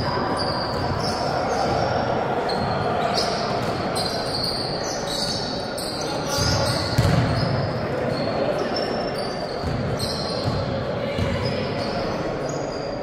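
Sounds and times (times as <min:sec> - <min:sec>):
hubbub of large hall: 0:00.0 - 0:13.0
shoes squeaking on court: 0:02.5 - 0:13.0.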